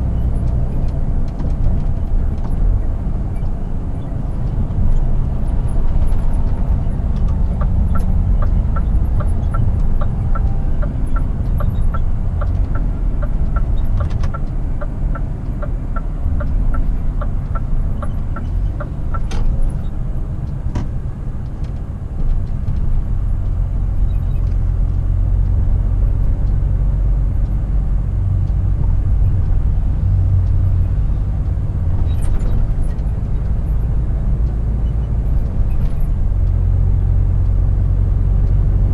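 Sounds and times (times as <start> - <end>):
truck diesel engine rumble: 0.0 - 38.9
turn signal ticking: 0.0 - 38.9
tyre and road noise: 0.0 - 38.9.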